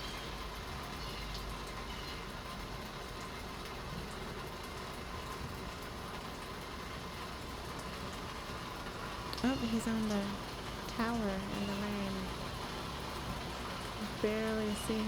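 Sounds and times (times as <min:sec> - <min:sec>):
faint ticks of raindrops: 0:00.0 - 0:15.0
light rain hissing: 0:00.0 - 0:15.0.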